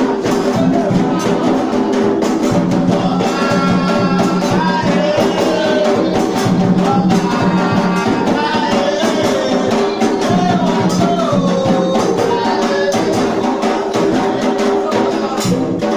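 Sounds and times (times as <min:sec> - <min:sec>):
drumming and percussion: 0:00.0 - 0:15.9
group singing a chant: 0:00.0 - 0:15.9.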